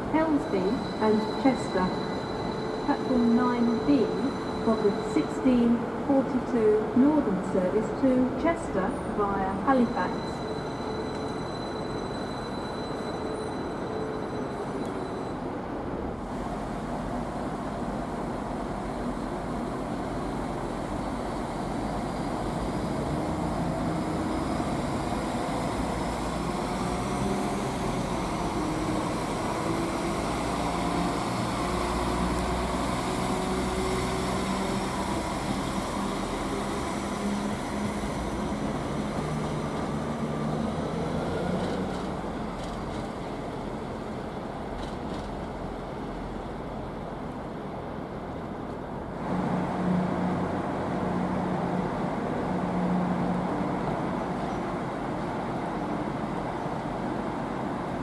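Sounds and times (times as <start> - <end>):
train mechanical drone: 0.0 - 58.0.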